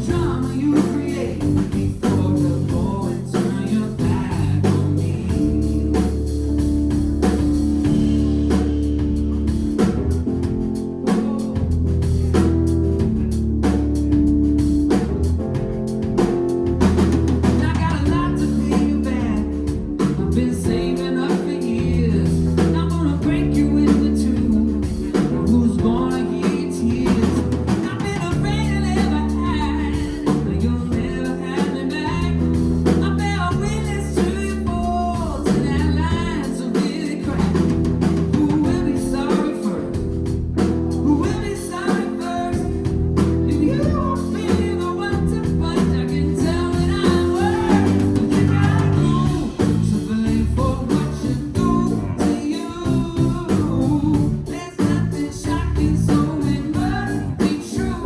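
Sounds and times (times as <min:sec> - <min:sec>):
person singing lead vocal: 0:00.0 - 0:12.5, 0:16.2 - 0:58.0
bass: 0:00.0 - 0:58.0
guitar: 0:00.0 - 0:58.0.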